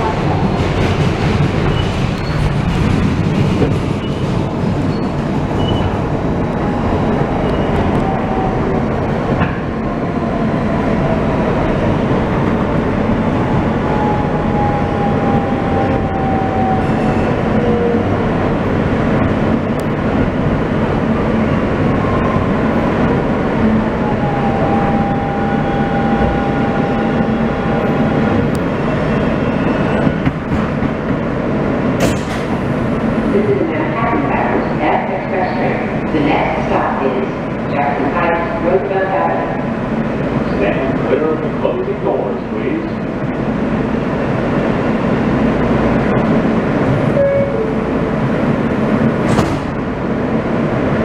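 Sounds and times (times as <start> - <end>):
subway train rumbling: 0.0 - 51.0.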